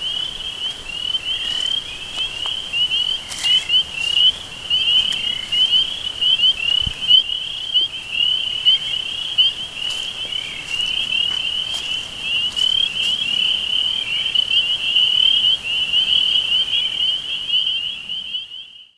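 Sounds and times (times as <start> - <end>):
small animals chirping: 0.0 - 18.7.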